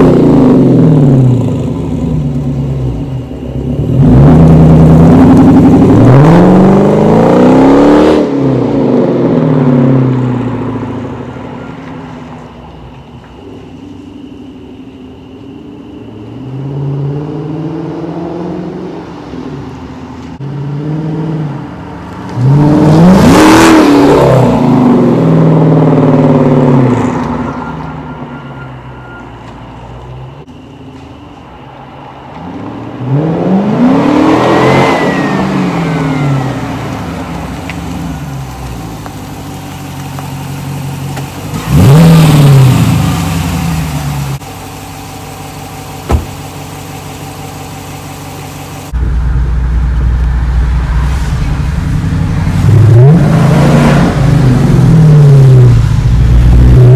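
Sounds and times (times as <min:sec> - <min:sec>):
car engine accelerating hard: 0:00.0 - 0:11.4, 0:16.3 - 0:27.5, 0:32.3 - 0:56.9.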